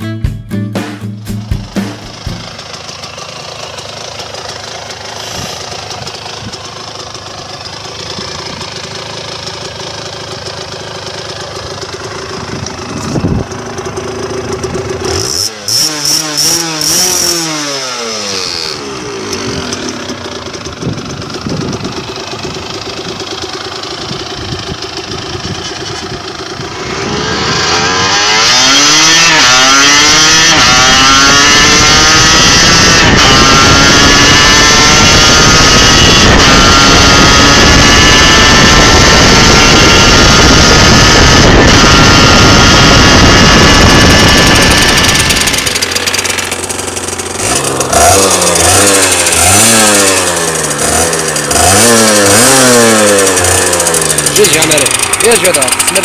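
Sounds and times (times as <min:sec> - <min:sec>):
motorcycle engine revving: 0:01.2 - 0:56.0.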